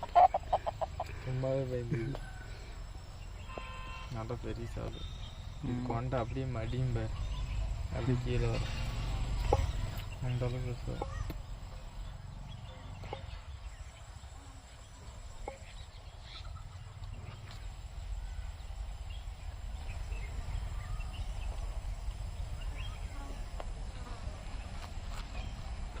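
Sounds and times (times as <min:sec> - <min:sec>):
chickens clucking and chirping: 0:00.0 - 0:03.5, 0:04.6 - 0:26.0
steady low rumble: 0:04.4 - 0:26.0.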